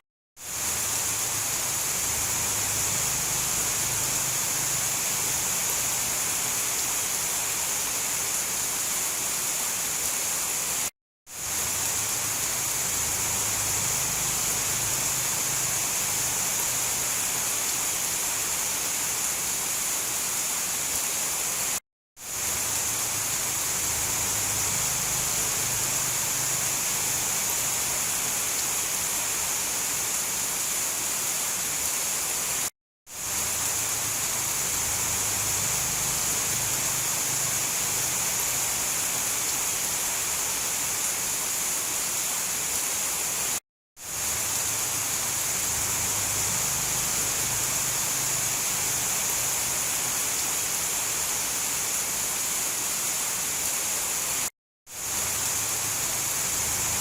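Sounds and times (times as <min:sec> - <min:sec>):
dense rain: 0:00.4 - 0:57.0.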